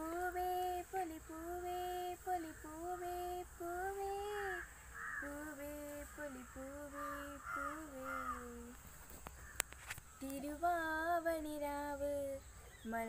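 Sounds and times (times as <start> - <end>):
girl singing unaccompanied: 0.0 - 9.2, 10.2 - 13.0.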